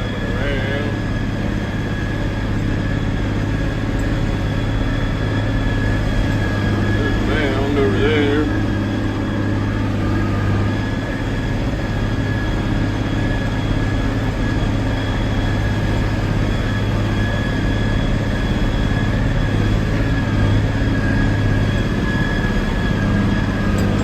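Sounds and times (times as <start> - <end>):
faint steady whine: 0.0 - 24.0
tractor engine drone: 0.0 - 24.0.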